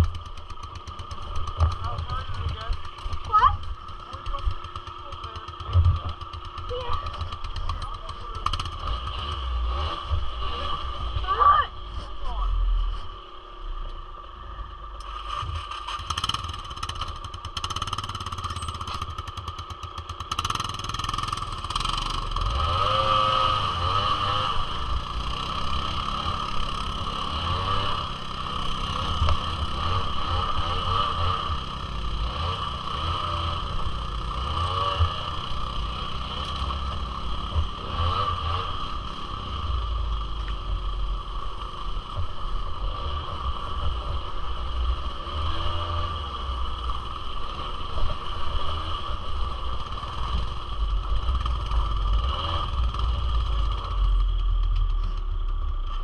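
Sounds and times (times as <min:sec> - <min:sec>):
two-stroke engine revving: 0:00.0 - 0:11.7, 0:14.9 - 0:55.8.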